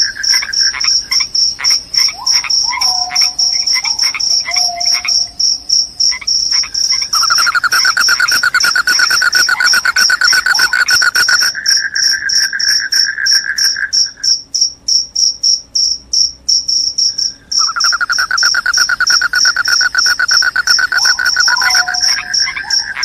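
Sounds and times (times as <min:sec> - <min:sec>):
high-pitched cricket chirping: 0:00.0 - 0:23.0
lower-pitched cricket trill: 0:00.0 - 0:23.0.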